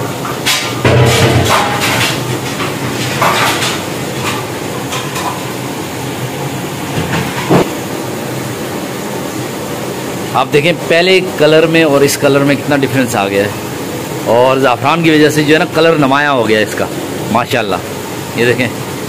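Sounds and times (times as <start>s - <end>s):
frying hiss: 0.0s - 19.0s.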